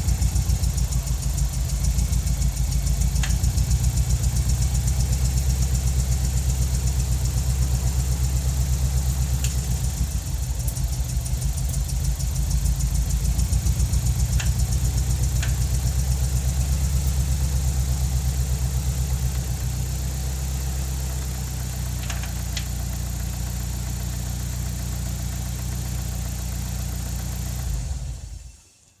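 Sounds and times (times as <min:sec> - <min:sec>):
car engine idling: 0:00.0 - 0:28.6.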